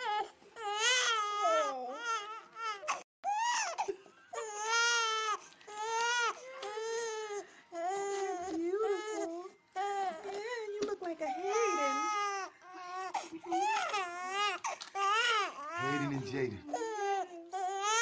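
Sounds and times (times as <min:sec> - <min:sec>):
baby crying: 0:00.0 - 0:18.0.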